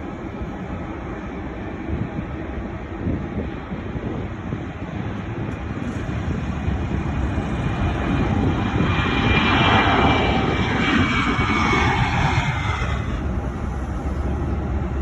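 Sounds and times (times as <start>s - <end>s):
jet airliner engines passing: 0.0s - 15.0s.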